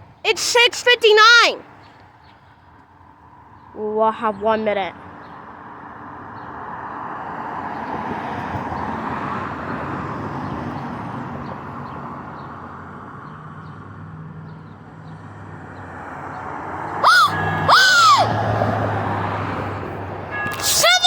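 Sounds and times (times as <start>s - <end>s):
passing vehicle: 1.0s - 21.0s.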